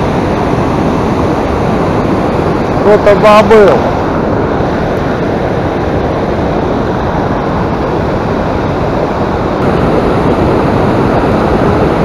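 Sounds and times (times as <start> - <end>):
loud rushing noise: 0.0 - 12.0.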